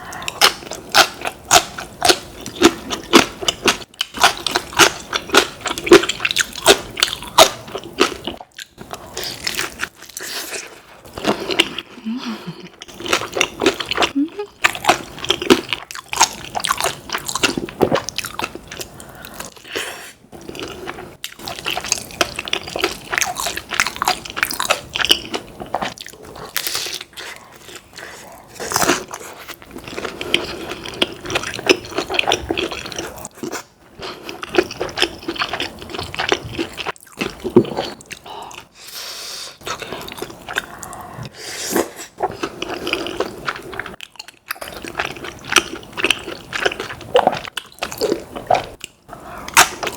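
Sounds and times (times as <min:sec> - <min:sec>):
person crunching and chewing: 0:00.0 - 0:12.0, 0:12.8 - 0:38.7, 0:39.6 - 0:49.9.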